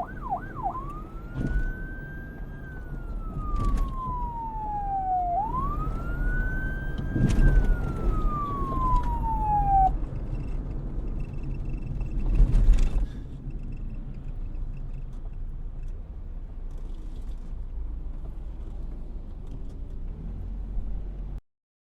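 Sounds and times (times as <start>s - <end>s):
road traffic rumble: 0.0s - 21.4s.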